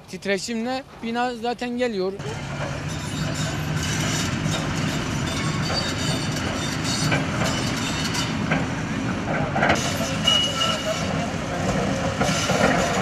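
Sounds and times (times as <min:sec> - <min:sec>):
excavator diesel engine running: 0:02.2 - 0:13.0.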